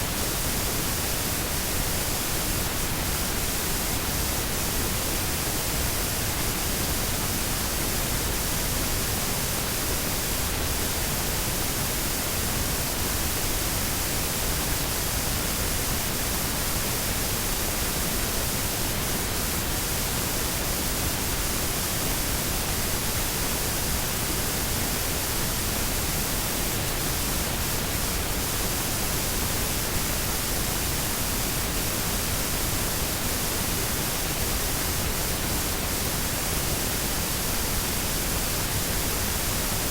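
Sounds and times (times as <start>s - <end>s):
steady hiss-like noise: 0.0s - 39.9s.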